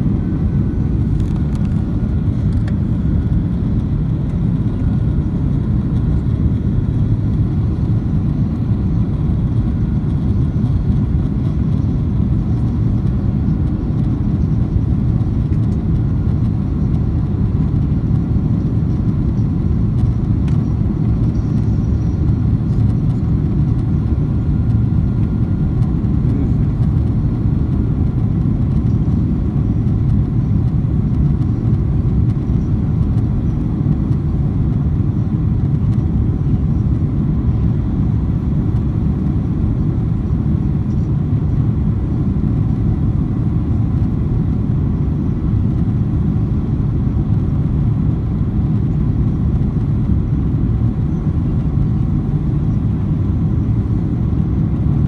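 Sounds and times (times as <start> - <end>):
faint steady whine: 0.0 - 55.0
jet engine cabin rumble: 0.0 - 55.0.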